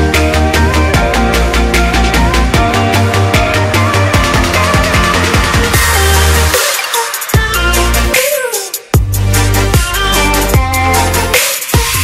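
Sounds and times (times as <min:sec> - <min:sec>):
fast electronic music: 0:00.0 - 0:12.0.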